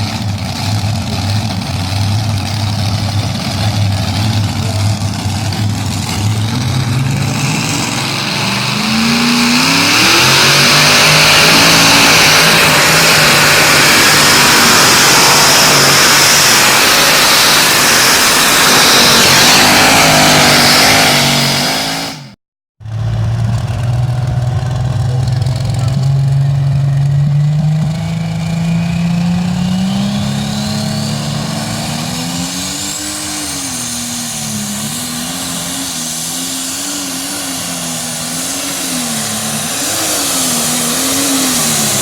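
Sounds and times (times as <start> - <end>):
tractor engine revving: 0.0 - 42.0.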